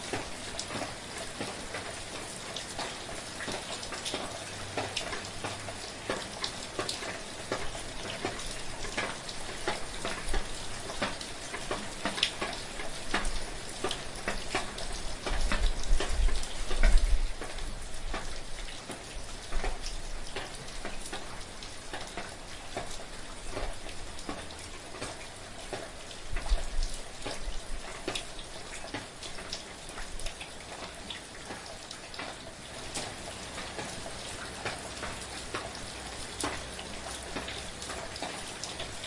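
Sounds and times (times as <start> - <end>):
rain falling: 0.0 - 39.0
raindrop clicks: 0.1 - 39.0.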